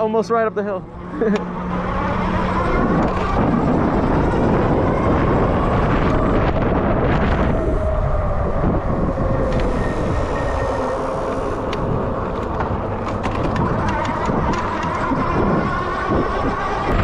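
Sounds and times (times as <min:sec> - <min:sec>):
electric motor whining: 0:00.0 - 0:17.0
wind buffeting microphone: 0:00.0 - 0:17.0.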